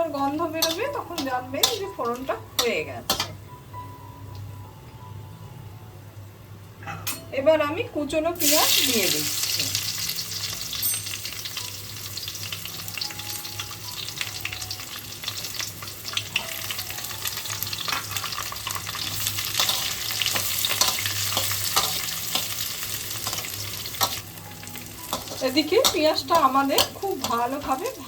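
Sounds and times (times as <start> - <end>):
onion sizzling in hot oil: 0.0 - 3.4, 8.4 - 28.0.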